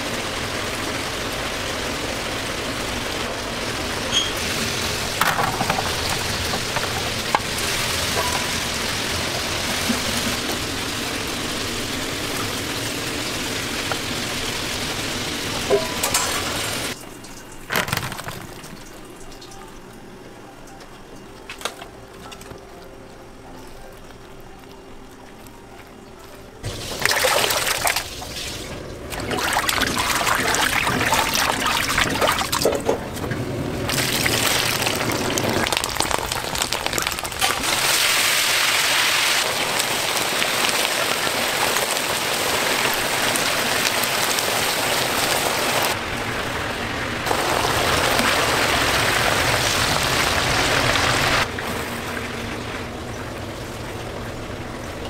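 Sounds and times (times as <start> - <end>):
oil sizzling in a wok: 0.0 - 17.7, 26.6 - 55.0.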